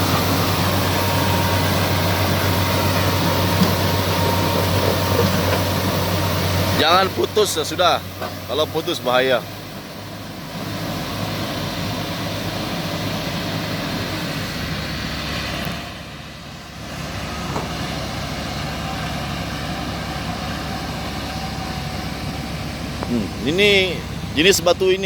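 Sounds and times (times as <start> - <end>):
heavy diesel engines under load: 0.0 - 25.0.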